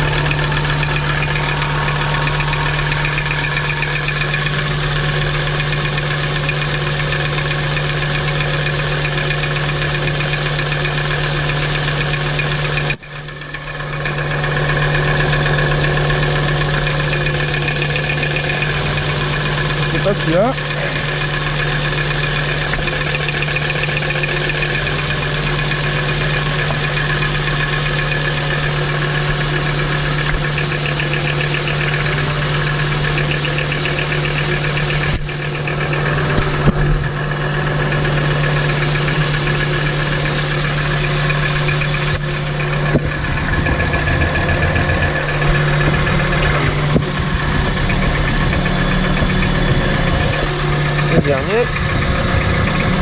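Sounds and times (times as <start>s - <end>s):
engine idling with a knock: 0.0s - 53.0s.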